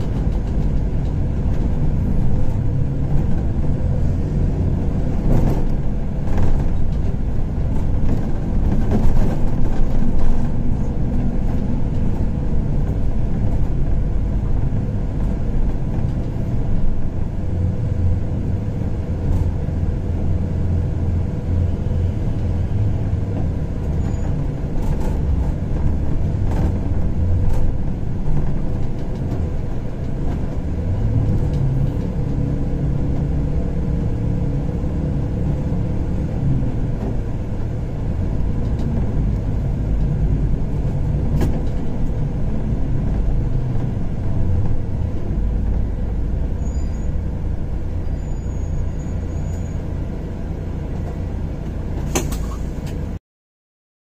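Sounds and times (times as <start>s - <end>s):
car engine and tyres rumbling: 0.0s - 53.2s.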